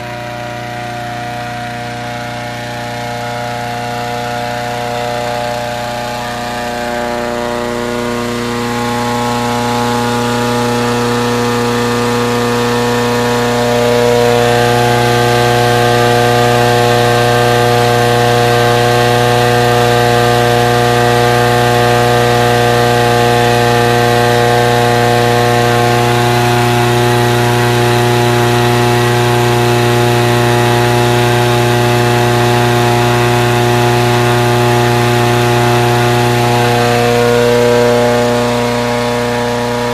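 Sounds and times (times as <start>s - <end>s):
petrol engine inflator fan running: 0.0s - 39.9s.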